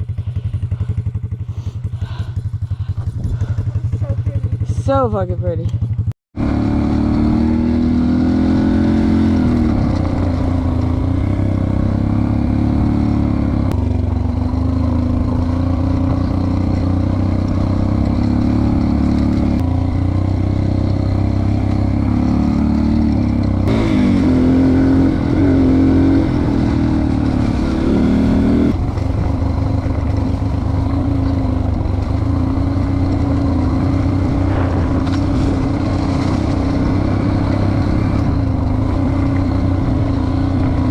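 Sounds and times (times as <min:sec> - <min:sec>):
dirt bike engine revving: 0:06.4 - 0:40.9.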